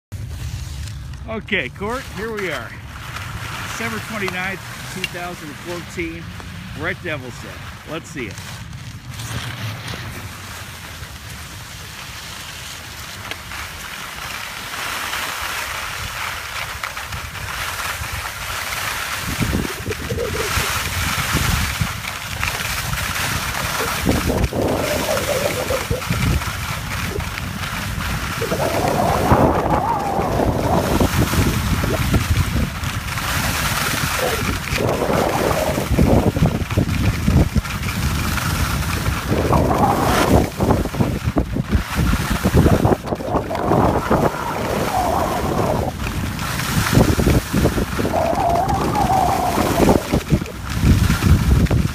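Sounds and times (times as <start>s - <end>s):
wind rushing over microphone: 0.1s - 12.3s, 15.5s - 51.9s
skis sliding on snow: 0.1s - 51.9s.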